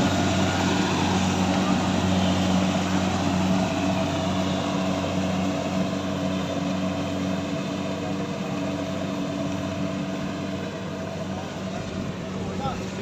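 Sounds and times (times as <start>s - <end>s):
harvesting machine engine running: 0.0s - 13.0s.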